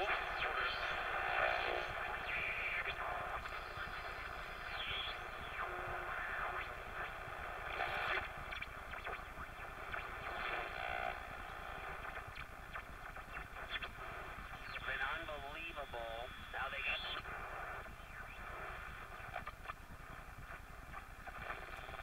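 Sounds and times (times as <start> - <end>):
radio static and hiss: 0.0 - 22.0.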